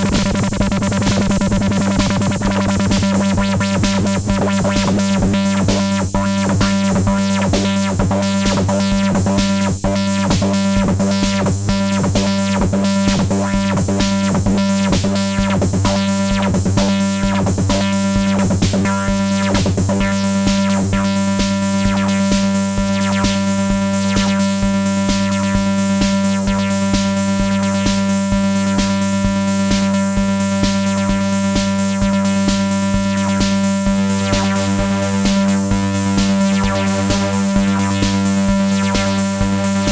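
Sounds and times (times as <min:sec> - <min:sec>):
sequenced bass synthesizer: 0:00.0 - 0:39.9.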